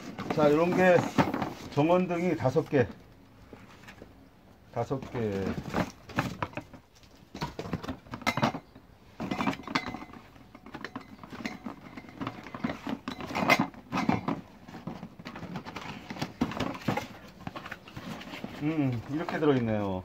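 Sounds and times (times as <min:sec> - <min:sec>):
cardboard boxes scraping and knocking: 0:00.0 - 0:02.8, 0:04.8 - 0:08.2, 0:09.2 - 0:20.0.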